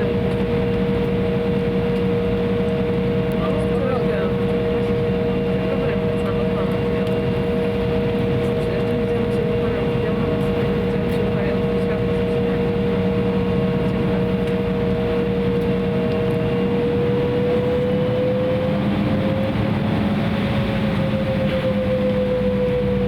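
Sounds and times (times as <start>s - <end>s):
engine humming whine: 0.0s - 23.0s
jet engine rumble in cabin: 0.0s - 23.0s.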